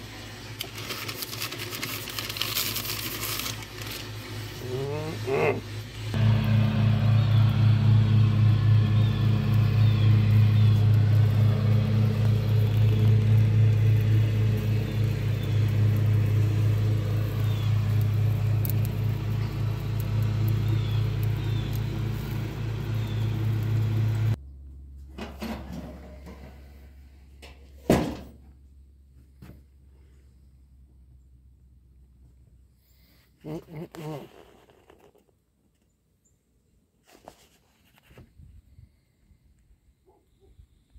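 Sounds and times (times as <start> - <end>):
gas grill burners humming: 0.0 - 33.2.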